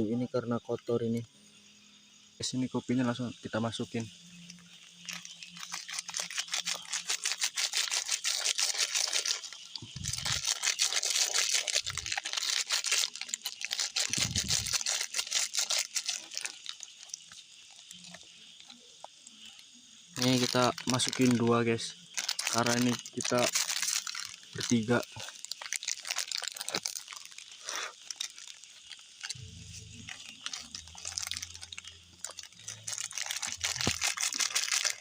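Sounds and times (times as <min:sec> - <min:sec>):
plastic packaging rustling and crinkling: 0:04.5 - 0:19.6, 0:20.2 - 0:35.0.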